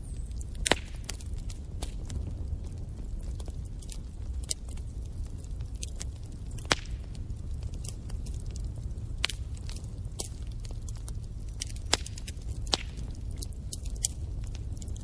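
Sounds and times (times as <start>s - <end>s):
fire crackling and popping: 0.0s - 15.0s
flames rumbling: 0.0s - 15.0s.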